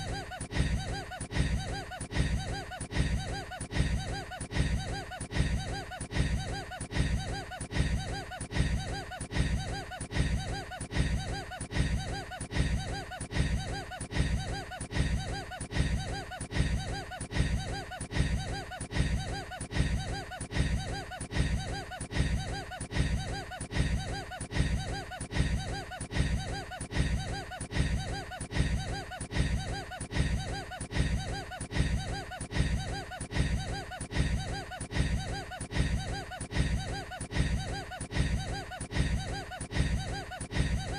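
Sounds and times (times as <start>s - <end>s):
man laughing: 0.0s - 40.9s.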